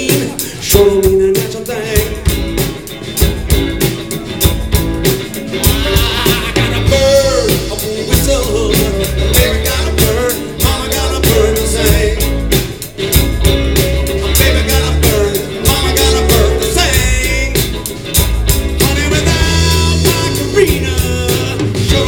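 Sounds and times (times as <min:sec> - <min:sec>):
bass line: 0:00.0 - 0:22.0
live blues band playing: 0:00.0 - 0:22.0
steady drum beat: 0:00.0 - 0:22.0.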